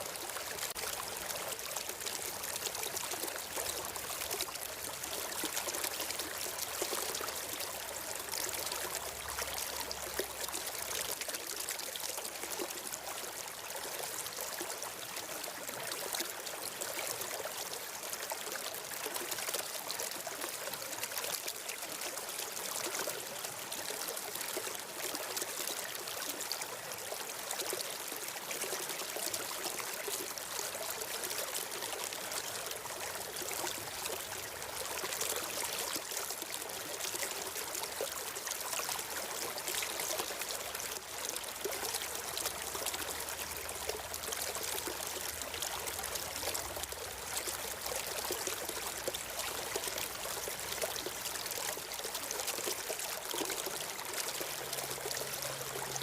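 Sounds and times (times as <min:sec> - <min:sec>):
stream of water trickling: 0:00.0 - 0:56.0.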